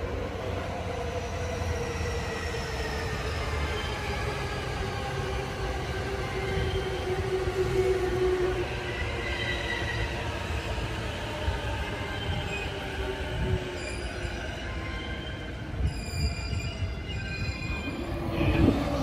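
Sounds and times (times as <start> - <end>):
electric train running past: 0.0 - 19.0.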